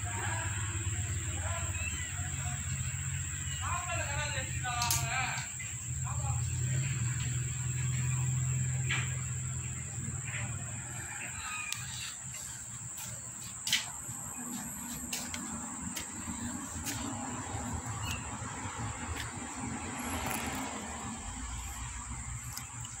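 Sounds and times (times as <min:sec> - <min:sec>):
insect trilling: 0:00.0 - 0:23.0.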